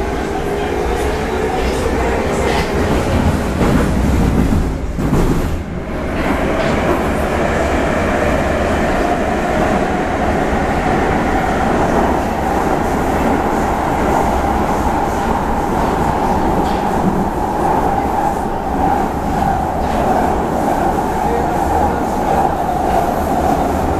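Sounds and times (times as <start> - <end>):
metro train wheels rumbling: 0.0 - 23.9.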